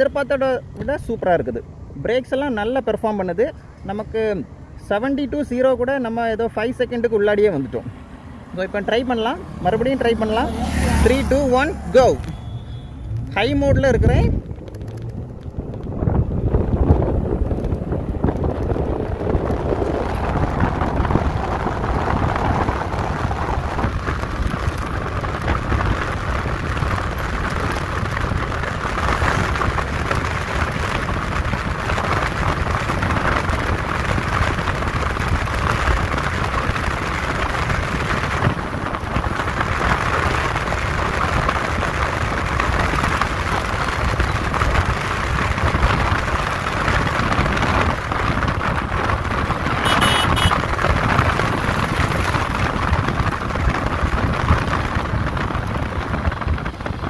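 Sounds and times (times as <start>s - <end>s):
motorcycle road noise: 0.0s - 57.0s
wind rushing over microphone: 0.0s - 57.0s.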